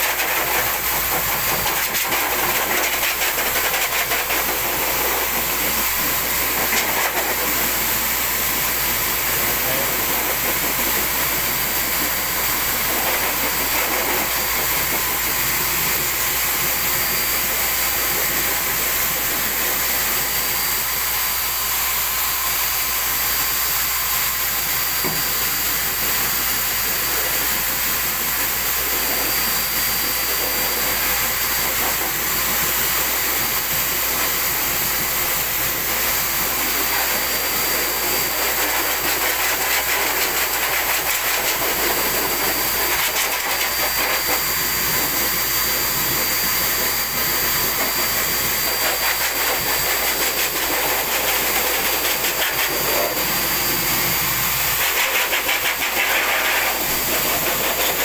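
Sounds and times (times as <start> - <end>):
pet dryer whooshing hiss: 0.0 - 58.0.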